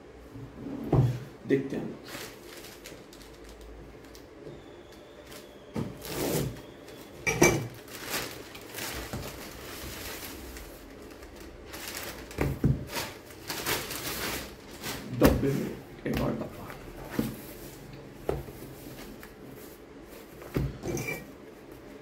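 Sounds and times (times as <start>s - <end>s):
plastic crinkling and rustling: 1.8s - 22.0s.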